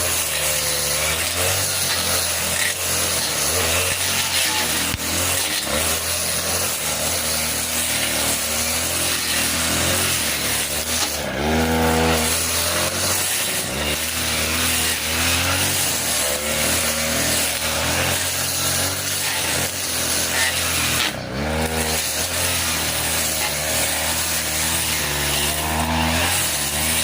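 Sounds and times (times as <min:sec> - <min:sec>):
brush cutter cutting grass: 0:00.0 - 0:27.0.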